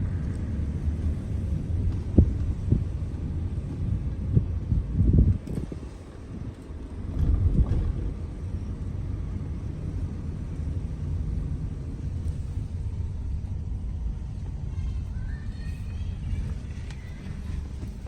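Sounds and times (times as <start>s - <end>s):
vehicle rumbling on road: 0.0s - 18.0s.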